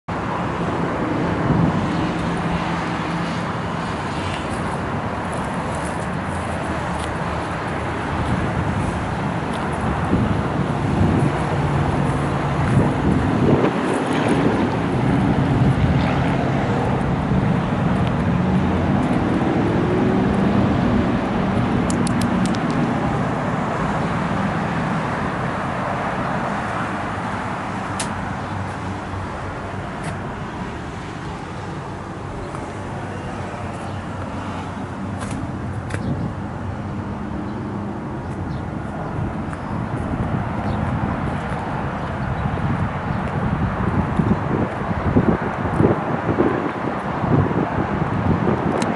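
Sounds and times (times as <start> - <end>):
vehicle engine hum: 0.1 - 48.9.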